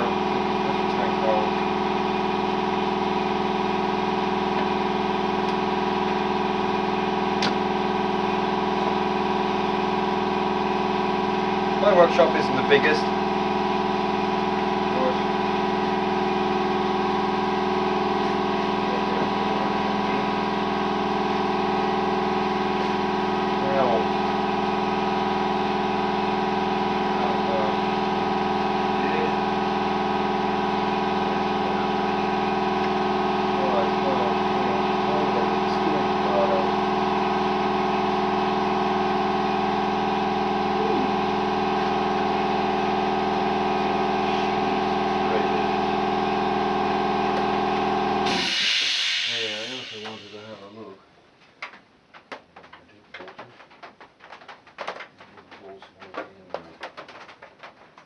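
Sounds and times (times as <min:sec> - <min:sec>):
machine buzzing hum: 0:00.0 - 0:50.9.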